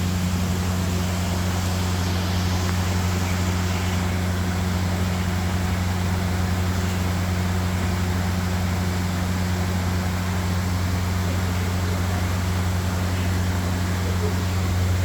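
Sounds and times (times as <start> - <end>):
even hiss: 0.0 - 15.0
low mechanical hum: 0.0 - 15.0.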